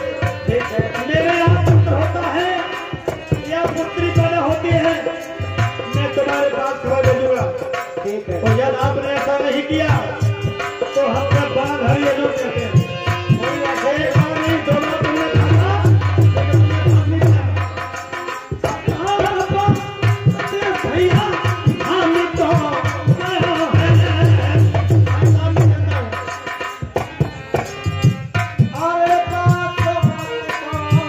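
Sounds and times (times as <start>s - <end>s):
hand-played barrel drum: 0.0s - 31.0s.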